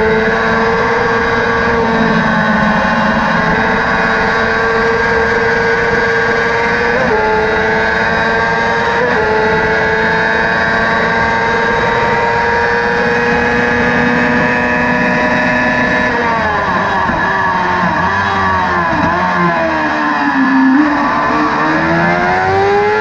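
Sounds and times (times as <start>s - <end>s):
engine running at high revs: 0.0s - 23.0s
road noise: 0.0s - 23.0s.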